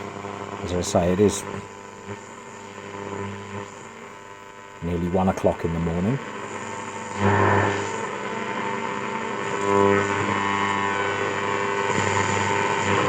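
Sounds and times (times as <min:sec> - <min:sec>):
radio mains hum: 0:00.0 - 0:13.0
radio static and hiss: 0:00.0 - 0:13.0.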